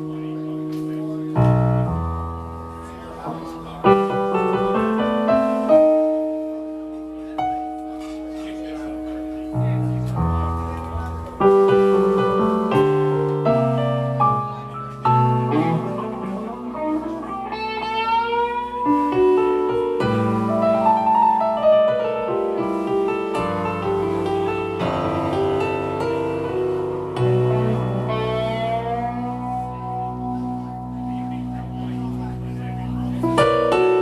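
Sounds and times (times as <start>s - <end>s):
electric guitar bending notes: 0.0s - 34.0s
keyboard chords: 0.0s - 34.0s.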